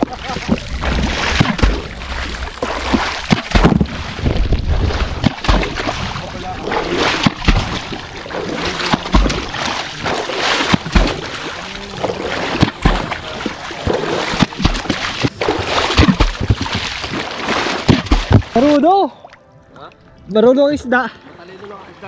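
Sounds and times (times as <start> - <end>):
pole splashing into water: 0.0 - 18.8.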